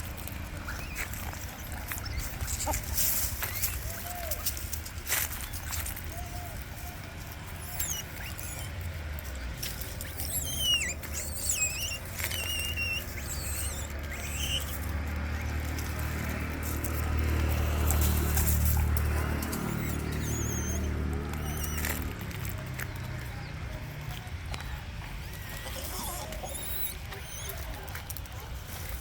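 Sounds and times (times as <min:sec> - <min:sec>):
monkeys squealing: 0:00.0 - 0:22.7, 0:25.2 - 0:29.0.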